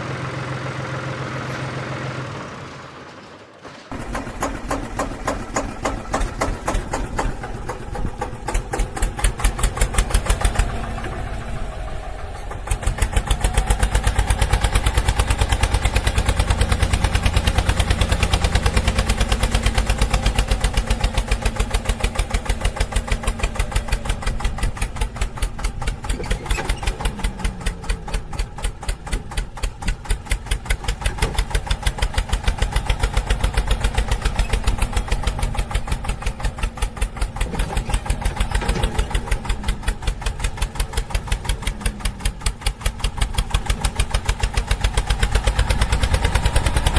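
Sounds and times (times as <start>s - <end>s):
engine putt-putt: 0.0s - 46.9s.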